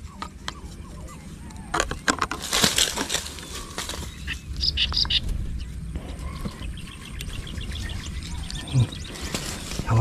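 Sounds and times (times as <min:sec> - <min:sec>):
bird chirping: 0:00.0 - 0:02.2, 0:02.8 - 0:10.0.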